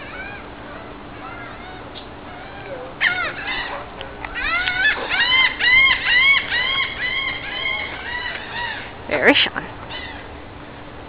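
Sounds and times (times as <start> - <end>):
marmosets chirping: 0.0 - 10.4.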